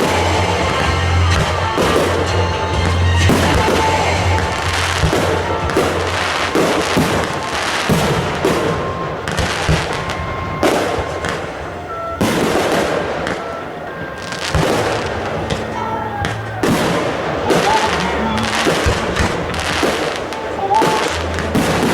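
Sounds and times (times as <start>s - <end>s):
fireworks bangs and crackling: 0.0s - 21.9s
music: 0.0s - 21.9s.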